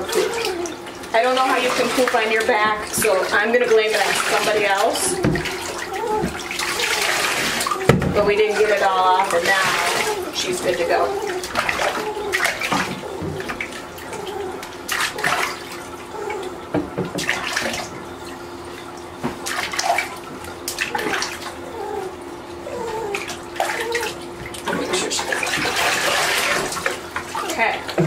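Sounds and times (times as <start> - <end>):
water splashing in bathtub: 0.0 - 28.0.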